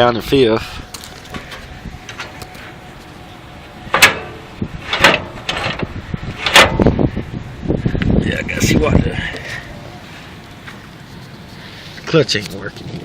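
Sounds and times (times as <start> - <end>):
riding mower clunks: 0.9 - 13.0.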